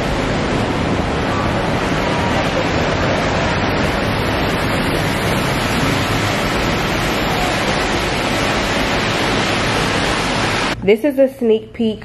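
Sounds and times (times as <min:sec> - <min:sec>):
heavy rain pouring: 0:00.0 - 0:10.8.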